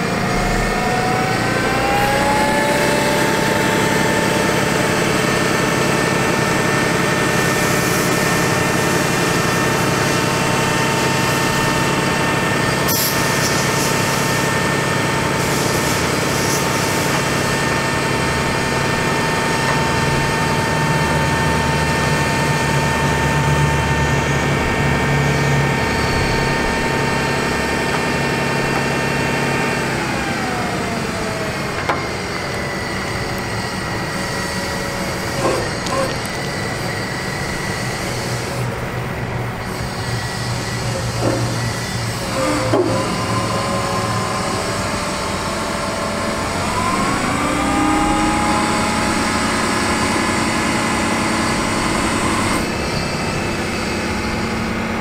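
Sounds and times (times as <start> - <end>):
truck hydraulic system whining: 0.0 - 55.0.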